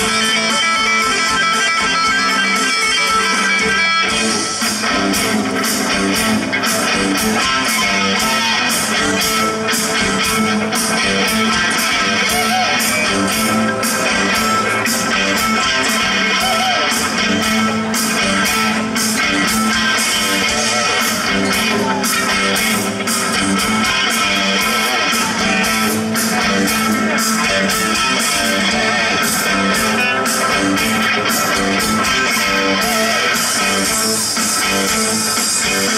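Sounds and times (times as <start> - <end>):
drums and cymbals: 0.0 - 35.9
live band playing: 0.0 - 35.9
strummed electric guitar: 0.0 - 35.9.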